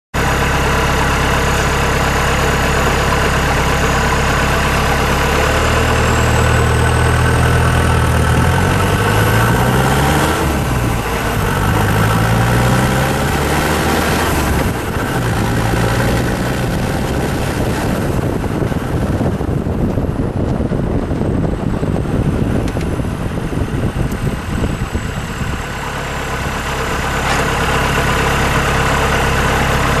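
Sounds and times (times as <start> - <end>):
diesel engine idling and revving: 0.2 - 30.0.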